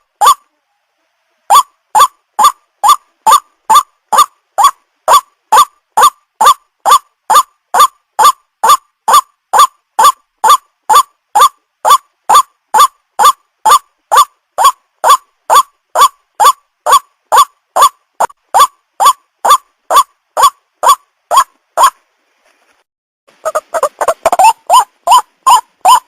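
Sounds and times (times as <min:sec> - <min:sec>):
bird calling: 0:01.5 - 0:22.0, 0:23.4 - 0:26.0.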